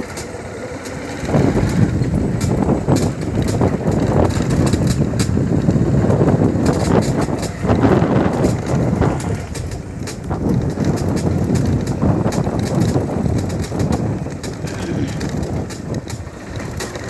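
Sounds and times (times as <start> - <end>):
vehicle engine and road drone: 0.0 - 17.0
wind buffeting microphone: 0.0 - 17.0.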